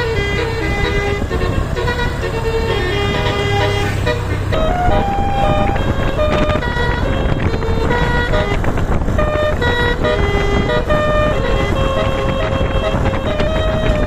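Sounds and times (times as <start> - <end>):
musical bus horn melody: 0.0 - 14.0
steady low rumble: 0.0 - 14.0.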